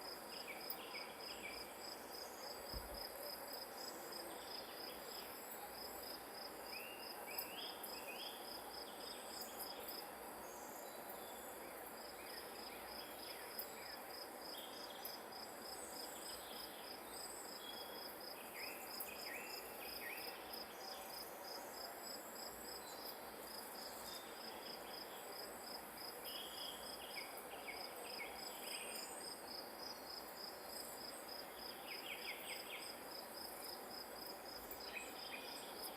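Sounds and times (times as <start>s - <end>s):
soft outdoor hiss: 0.0s - 35.9s.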